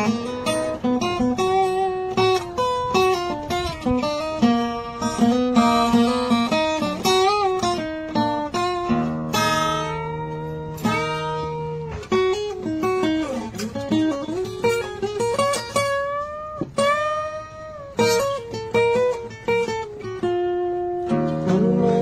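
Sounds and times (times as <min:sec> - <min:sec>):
acoustic guitar melody: 0:00.0 - 0:22.0.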